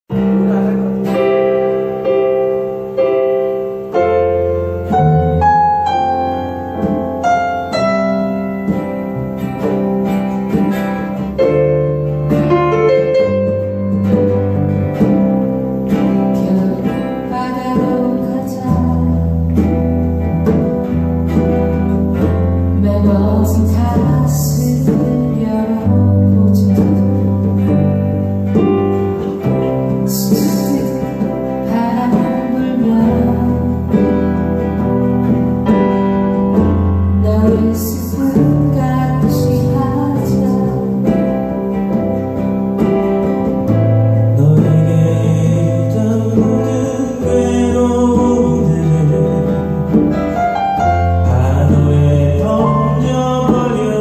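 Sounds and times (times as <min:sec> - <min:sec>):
electric bass: 0:00.0 - 0:54.0
guitar: 0:00.0 - 0:54.0
keyboard melody: 0:00.0 - 0:54.0.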